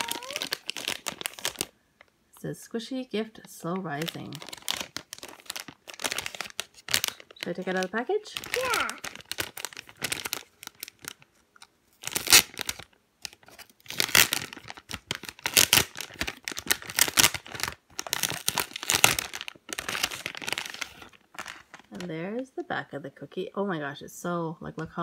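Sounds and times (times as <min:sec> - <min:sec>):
plastic bag crinkling and tearing: 0:00.0 - 0:02.1, 0:03.7 - 0:22.1.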